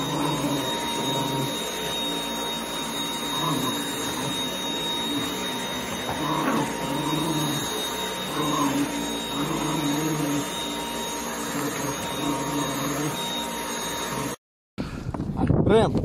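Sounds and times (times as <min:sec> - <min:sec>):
vacuum cleaner high whine: 0:00.0 - 0:14.4.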